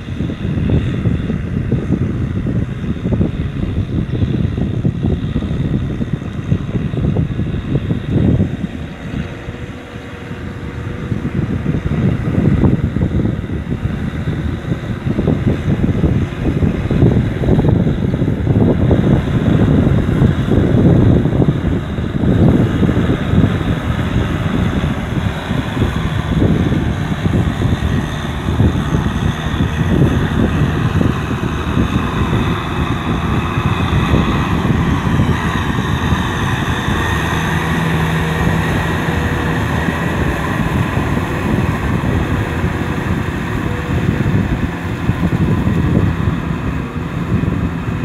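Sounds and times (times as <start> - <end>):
tractor diesel engine running: 0.0 - 48.0
wind rumble on microphone: 0.0 - 48.0.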